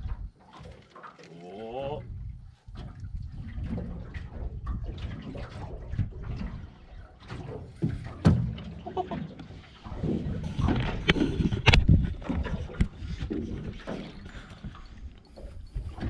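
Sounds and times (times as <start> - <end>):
water sloshing against boat hull: 0.0 - 16.0.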